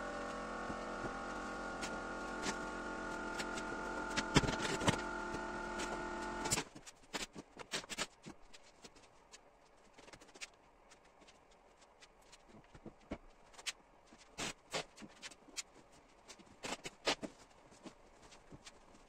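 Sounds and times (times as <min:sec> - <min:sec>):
fabric rustling and handling: 0:03.3 - 0:19.0.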